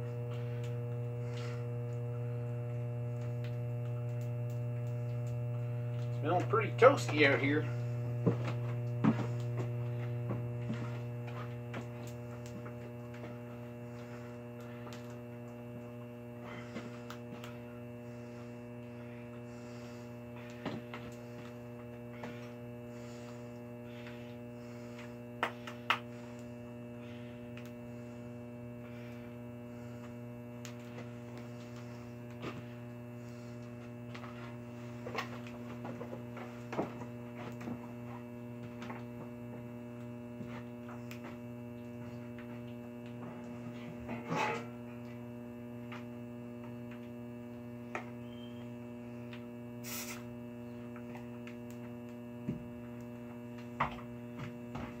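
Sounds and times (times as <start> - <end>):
compressor electrical hum: 0.0 - 55.0.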